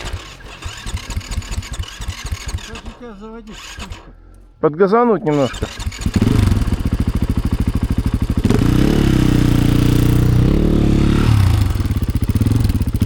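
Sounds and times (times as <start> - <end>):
engine idling and revving: 0.0 - 4.6, 5.2 - 13.0.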